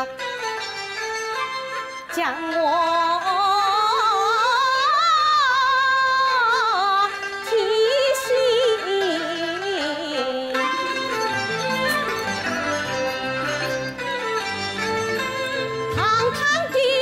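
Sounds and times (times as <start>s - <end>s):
traditional ensemble accompaniment: 0.0s - 17.0s.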